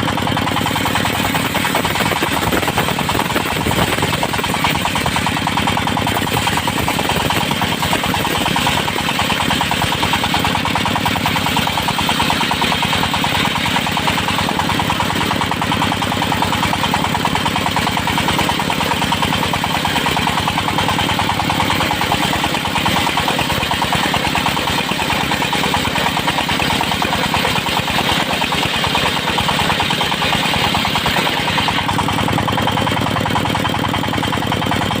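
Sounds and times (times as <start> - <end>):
circular saw whine cutting wood: 0.0 - 32.5
engine firing rapidly: 0.0 - 35.0.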